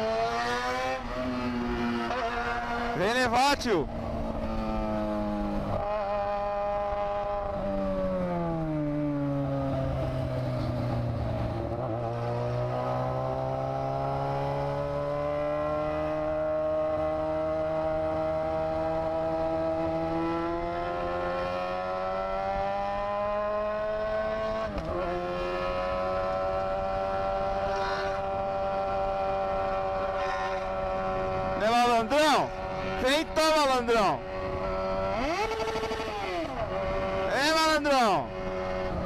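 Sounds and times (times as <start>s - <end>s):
motorcycle engine accelerating: 0.0s - 3.2s, 3.8s - 39.0s
wind and road noise: 0.0s - 39.0s.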